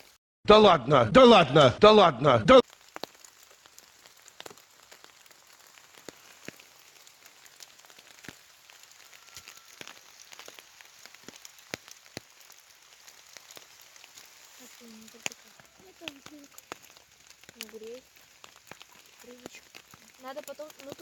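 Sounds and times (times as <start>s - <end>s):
raindrop impacts: 2.5s - 21.0s
light rain hiss: 2.6s - 21.0s.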